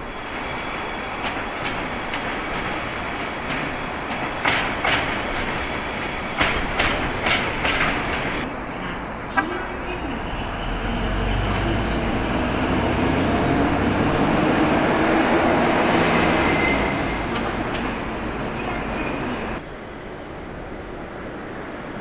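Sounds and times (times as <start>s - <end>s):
train wheels rumbling on rails: 0.0s - 19.6s.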